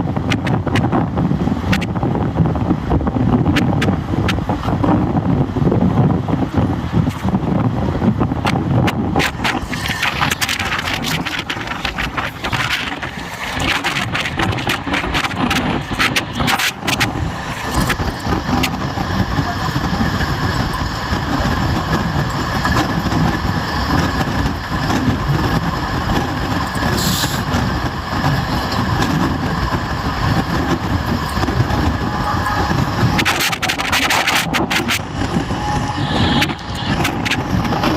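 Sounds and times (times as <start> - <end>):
train wheels rumbling on track: 0.0 - 37.9.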